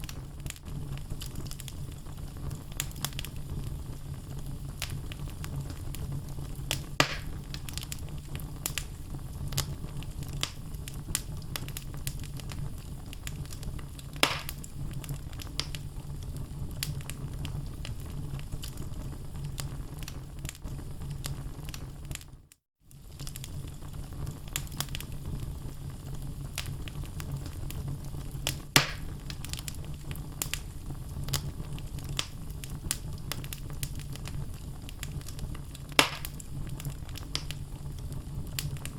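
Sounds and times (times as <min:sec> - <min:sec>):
loud fire pops: 0:00.0 - 0:22.3, 0:22.9 - 0:38.9
low rumble of flames: 0:00.0 - 0:38.9
wood logs crackling in fireplace: 0:00.0 - 0:38.9.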